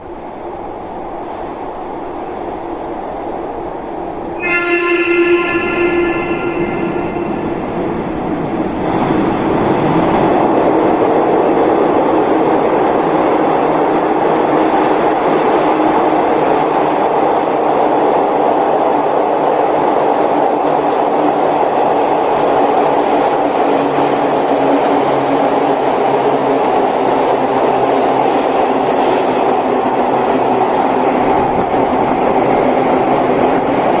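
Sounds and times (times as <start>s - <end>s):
train passing on rails: 0.0s - 34.0s.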